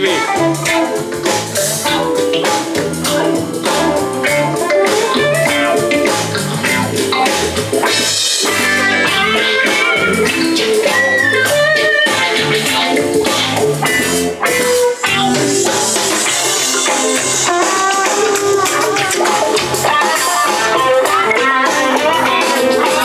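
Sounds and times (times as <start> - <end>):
guitar-led music with bass and drums: 0.0 - 23.0.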